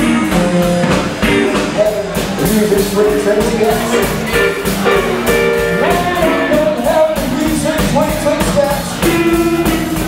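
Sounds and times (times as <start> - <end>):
man singing into a microphone: 0.0 - 4.6, 5.6 - 10.0
bass guitar: 0.0 - 10.0
drum kit: 0.0 - 10.0
electric guitar: 0.0 - 10.0.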